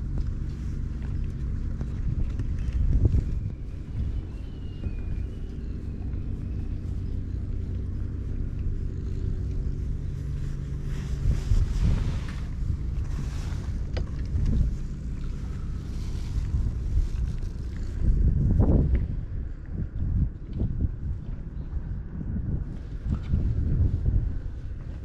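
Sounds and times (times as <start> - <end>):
steady low hum: 0.0 - 25.0
wind noise on microphone: 0.0 - 25.0.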